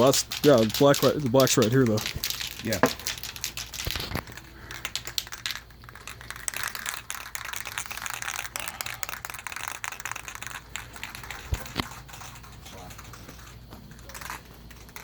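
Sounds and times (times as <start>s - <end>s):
spray can mixing ball rattling: 0.0s - 15.0s.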